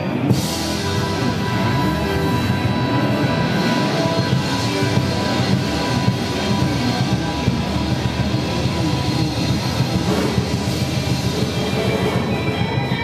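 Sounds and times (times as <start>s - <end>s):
drums: 0.0s - 13.0s
electric guitars: 0.0s - 13.0s
live rock band playing blues: 0.0s - 13.0s.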